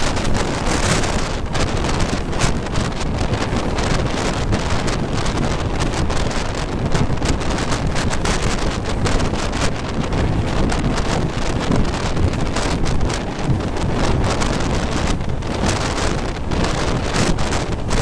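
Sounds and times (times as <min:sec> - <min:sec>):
train wheels rumbling on rail: 0:00.0 - 0:18.0
wind buffeting microphone: 0:00.0 - 0:18.0.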